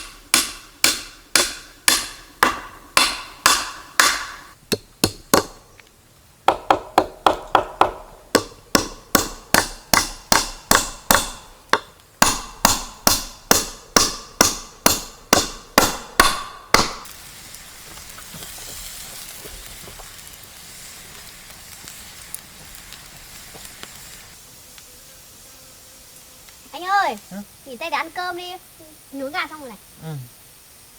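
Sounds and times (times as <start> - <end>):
faint steady hiss: 0.0 - 30.9.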